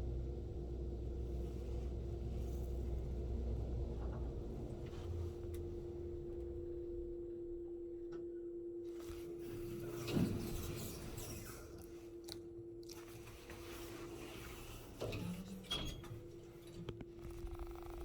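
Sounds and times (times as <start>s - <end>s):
elevator electrical hum: 0.0s - 18.0s.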